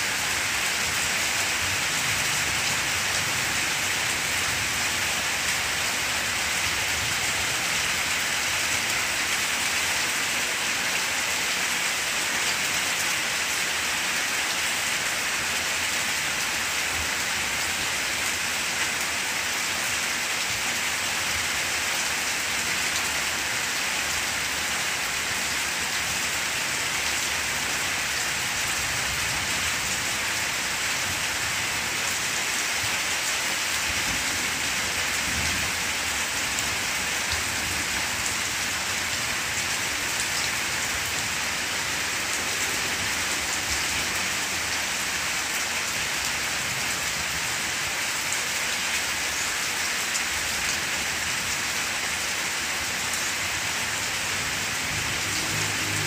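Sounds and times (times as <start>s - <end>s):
rain falling on plants: 0.0s - 56.0s.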